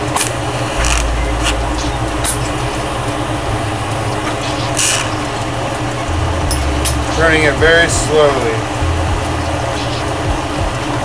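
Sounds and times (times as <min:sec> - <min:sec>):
torch burning with steady hiss: 0:00.0 - 0:11.0.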